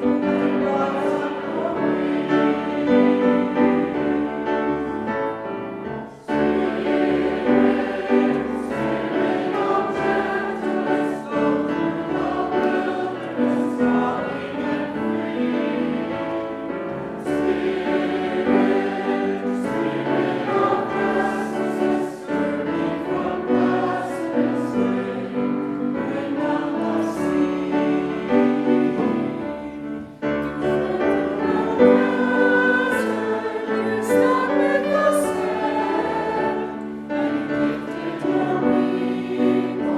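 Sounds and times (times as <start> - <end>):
choir singing sustained chords: 0.0 - 39.9.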